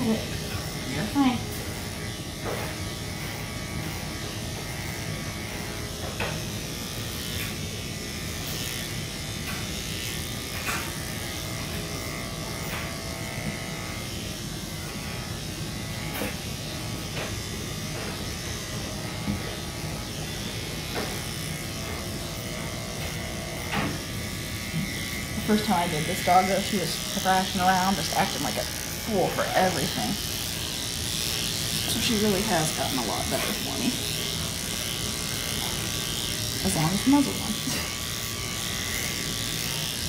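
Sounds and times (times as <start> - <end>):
electric clippers buzzing: 0.0 - 40.0.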